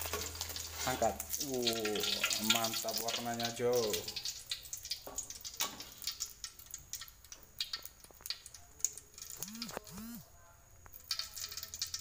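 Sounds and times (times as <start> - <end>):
hot oil crackling and popping: 0.0 - 10.0, 10.7 - 12.0.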